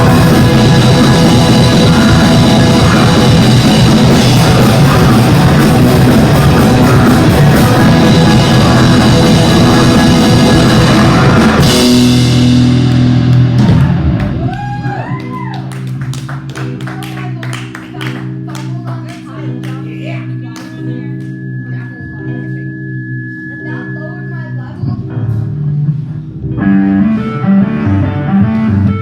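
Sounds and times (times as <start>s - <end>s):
live rock band playing: 0.0s - 22.6s, 26.5s - 29.0s.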